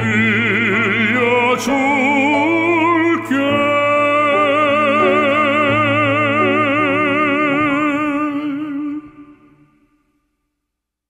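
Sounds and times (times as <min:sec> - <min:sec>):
piano accompaniment: 0:00.0 - 0:09.6
baritone operatic singing: 0:00.0 - 0:09.9.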